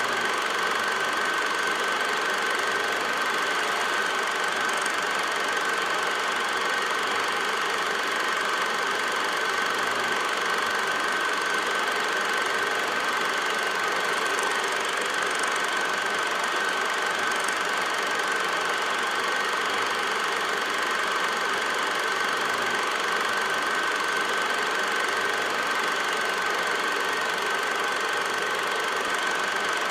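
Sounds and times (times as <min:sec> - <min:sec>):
film projector running: 0:00.0 - 0:29.9.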